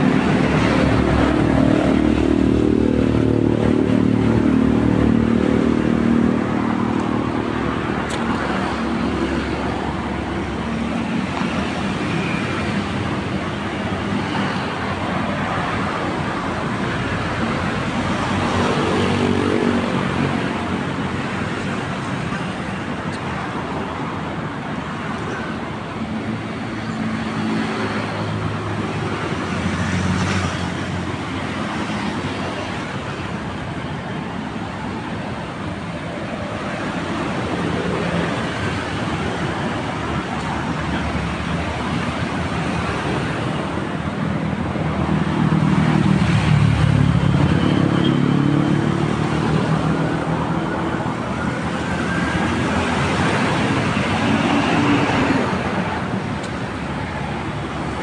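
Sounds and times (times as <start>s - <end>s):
traffic hum: 0.0s - 58.0s.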